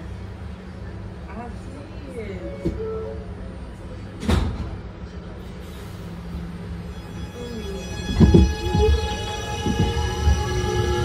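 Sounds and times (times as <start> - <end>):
subway train running noise: 0.0 - 11.0.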